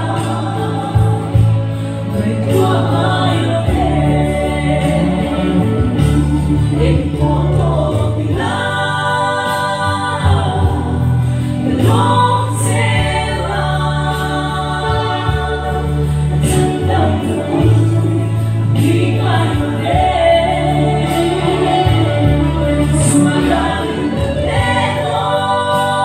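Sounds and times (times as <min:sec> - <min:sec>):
gospel song with instrumental backing: 0:00.0 - 0:26.0.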